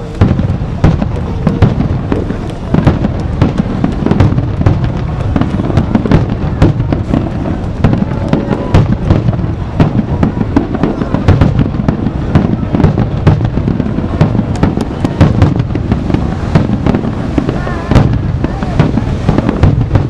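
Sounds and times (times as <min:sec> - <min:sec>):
fireworks bursts: 0:00.0 - 0:20.0
low rumble of booms: 0:00.0 - 0:20.0.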